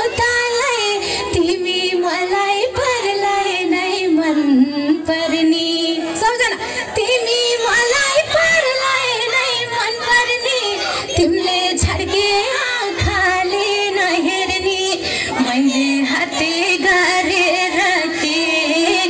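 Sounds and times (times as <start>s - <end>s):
woman singing into a microphone: 0.0s - 19.0s.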